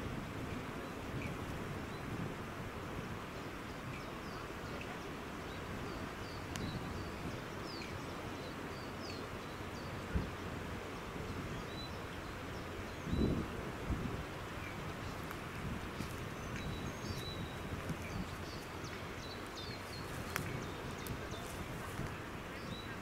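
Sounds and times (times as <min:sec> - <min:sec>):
background hiss: 0:00.0 - 0:23.0
small birds chirping: 0:03.4 - 0:23.0.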